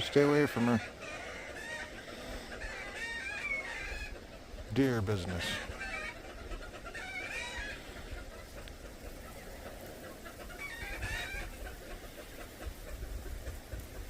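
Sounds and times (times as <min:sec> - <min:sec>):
chicken clucking: 0:00.0 - 0:14.0.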